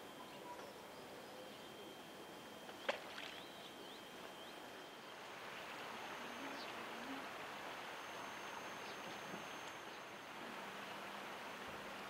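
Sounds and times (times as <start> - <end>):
faint high chirps: 0.0 - 7.3, 7.9 - 10.3
river ambience: 0.0 - 12.0.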